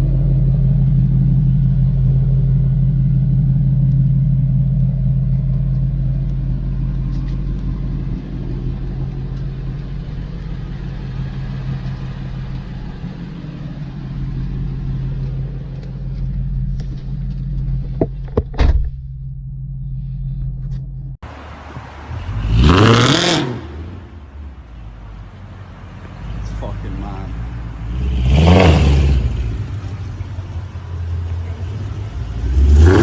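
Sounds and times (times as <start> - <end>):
car exhaust rumbling: 0.0 - 33.0.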